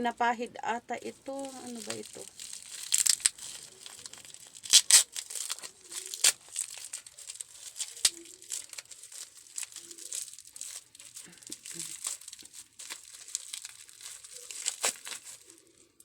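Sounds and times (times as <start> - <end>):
packaging crinkling: 1.0 - 16.0.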